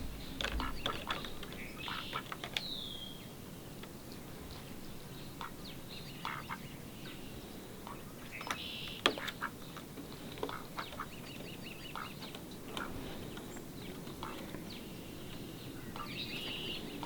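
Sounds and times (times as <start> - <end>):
bird calls and chirps: 0.0 - 17.0.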